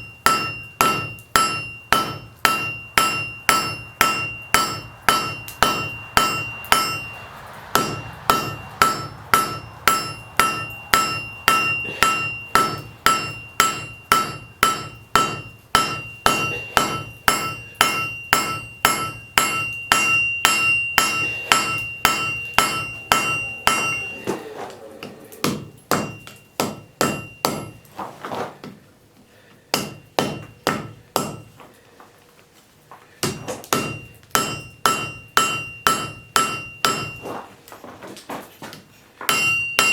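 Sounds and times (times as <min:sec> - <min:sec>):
hammer striking iron on anvil: 0:00.0 - 0:27.9, 0:29.7 - 0:31.7, 0:33.2 - 0:37.4, 0:39.2 - 0:39.9.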